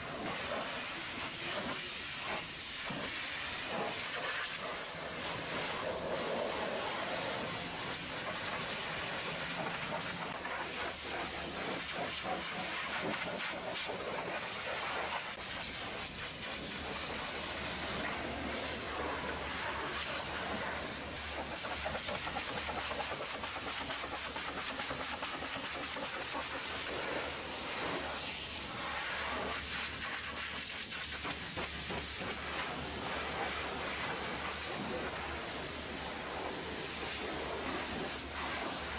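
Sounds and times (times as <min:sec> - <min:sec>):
pressure washer spray hissing: 0:00.0 - 0:38.9.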